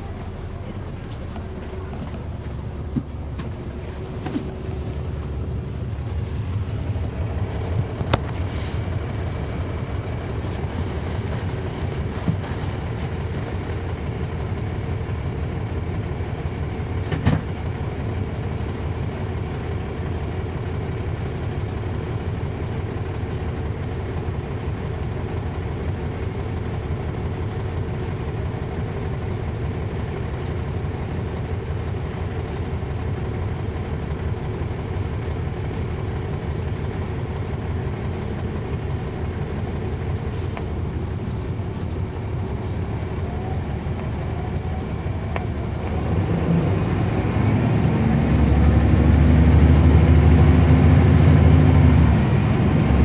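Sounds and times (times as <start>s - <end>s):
bus diesel engine running: 0.0s - 53.0s
engine cooling fans: 0.0s - 53.0s.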